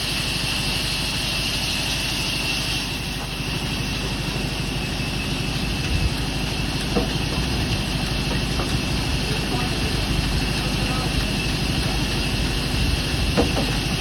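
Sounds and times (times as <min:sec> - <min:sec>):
woodworking machine motor hum: 0:00.0 - 0:14.0.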